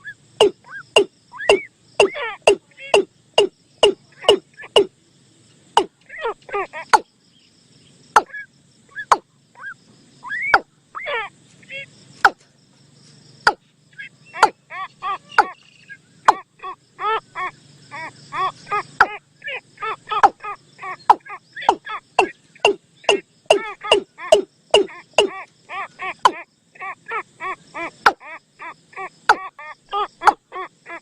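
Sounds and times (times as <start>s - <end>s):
nasal bird calls: 0.0s - 4.9s, 5.7s - 12.4s, 13.4s - 31.0s
faint steady hum: 0.0s - 31.0s.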